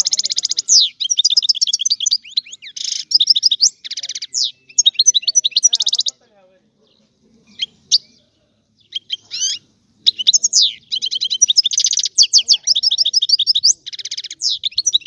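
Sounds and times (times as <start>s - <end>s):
finch singing: 0.0s - 15.0s.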